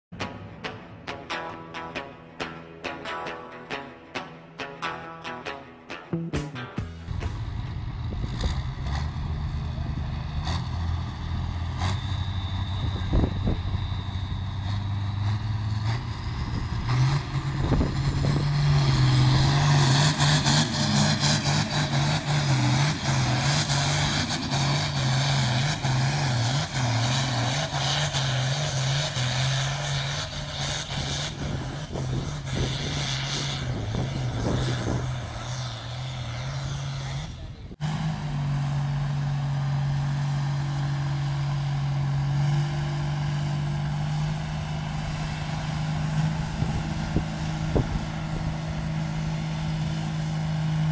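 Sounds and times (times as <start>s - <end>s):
engine running under heavy load: 7.0s - 50.9s.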